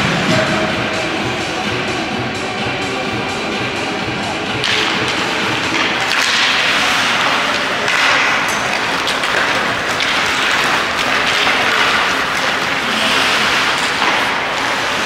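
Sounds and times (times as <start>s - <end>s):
arena music: 0.0s - 15.0s.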